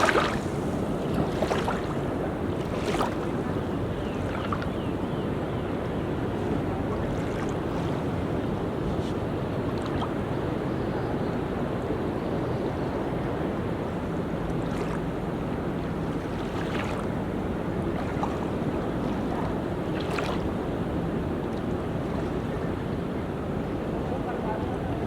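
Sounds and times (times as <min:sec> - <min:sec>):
ocean waves on a beach: 0:00.0 - 0:25.0.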